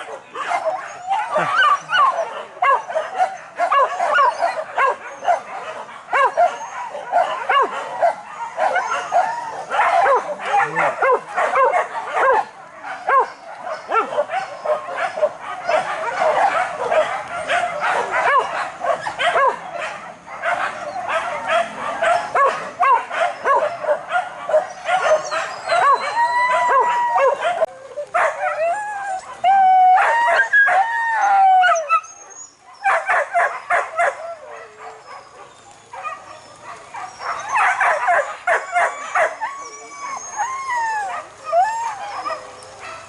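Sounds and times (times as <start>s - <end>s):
dogs yelping and barking: 0.0s - 43.0s.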